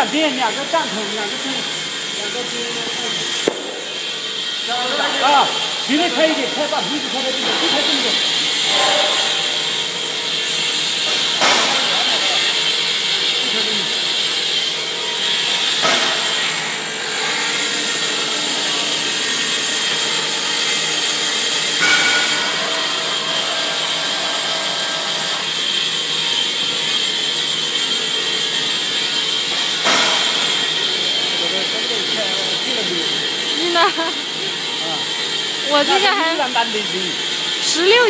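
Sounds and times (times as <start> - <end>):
foam splitting machine hissing: 0.0 - 38.0
machine whine: 0.0 - 38.0.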